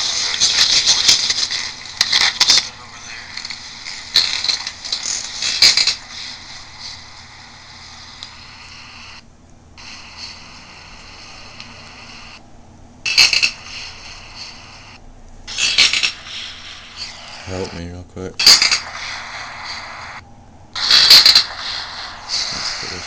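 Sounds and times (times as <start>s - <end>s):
recorder hiss: 0.0s - 23.0s.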